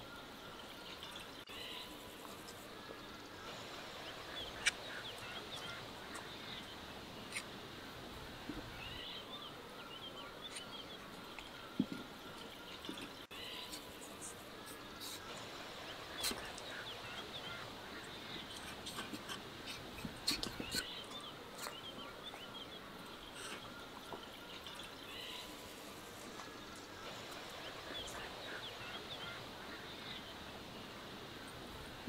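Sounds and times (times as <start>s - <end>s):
faint outdoor background noise: 0.0s - 32.0s
small birds chirping: 0.1s - 32.0s.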